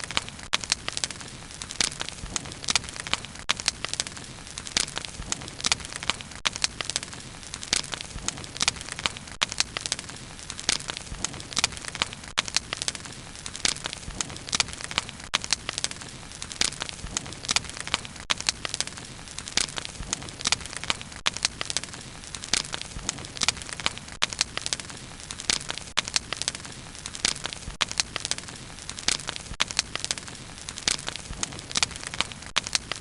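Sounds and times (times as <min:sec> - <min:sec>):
bonfire crackling and popping: 0:00.0 - 0:33.0.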